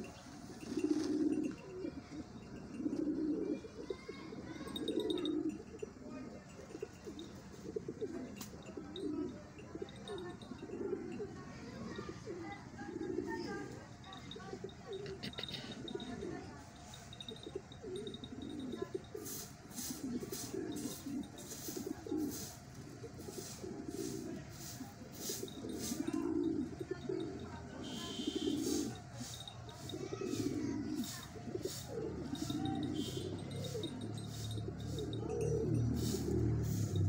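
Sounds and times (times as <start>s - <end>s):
pigeons cooing: 0.0s - 37.0s.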